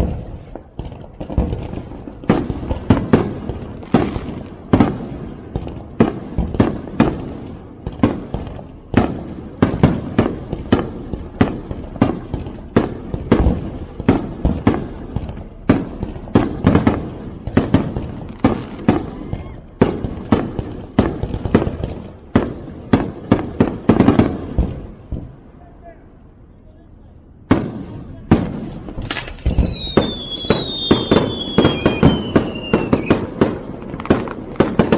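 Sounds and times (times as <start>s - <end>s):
fireworks crackling: 0.0s - 25.6s, 27.4s - 34.9s
fireworks bangs with rumbling echo: 0.0s - 26.6s, 27.2s - 34.9s.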